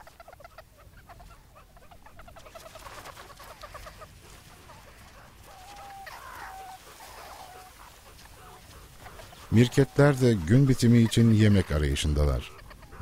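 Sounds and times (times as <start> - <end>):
meerkat peeps: 0.0 - 13.0
meerkats clucking chirps: 0.0 - 13.0.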